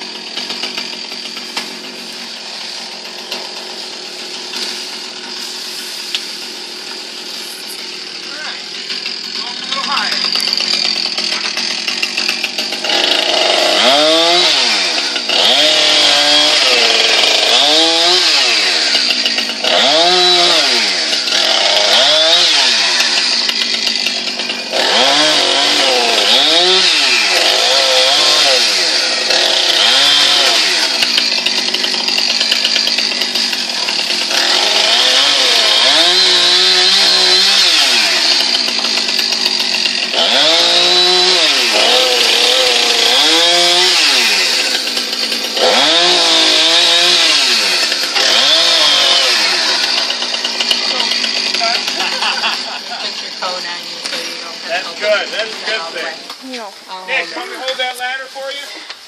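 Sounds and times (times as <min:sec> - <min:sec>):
chainsaw cutting through wood: 0:00.0 - 0:59.0.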